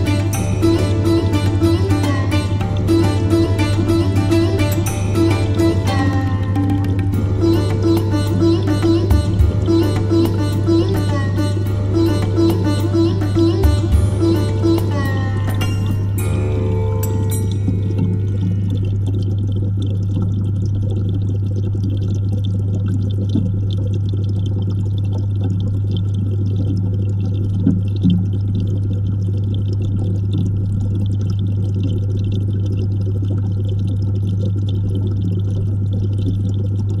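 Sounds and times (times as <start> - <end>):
bubbling water: 0.0 - 37.0
low hum of tank equipment: 0.0 - 37.0.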